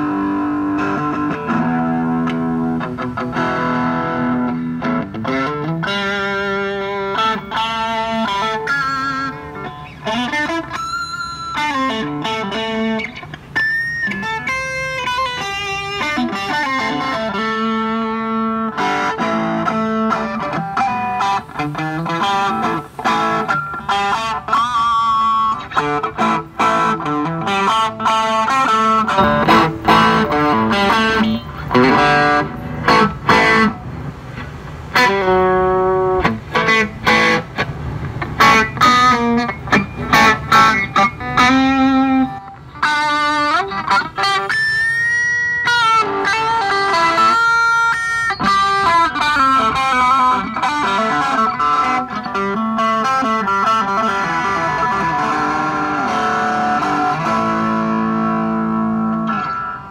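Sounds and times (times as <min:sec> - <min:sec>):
electric guitar lead runs: 0:00.0 - 0:59.9.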